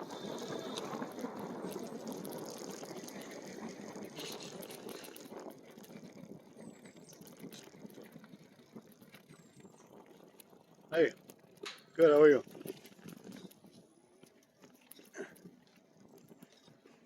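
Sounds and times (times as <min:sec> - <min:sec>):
small clicks: 0:00.0 - 0:17.0.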